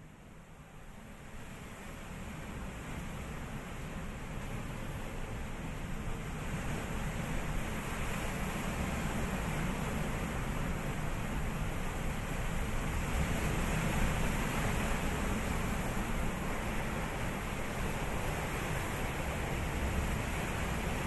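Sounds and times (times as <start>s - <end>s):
sea waves washing: 1.6s - 21.0s.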